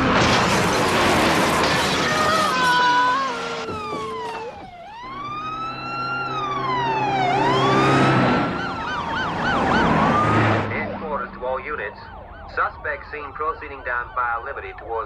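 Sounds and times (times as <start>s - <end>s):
police siren wailing: 1.5s - 15.0s.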